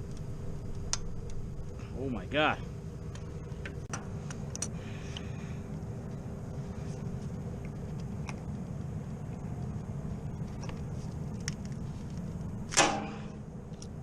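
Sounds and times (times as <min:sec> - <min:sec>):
refrigeration unit humming: 0:00.0 - 0:14.0.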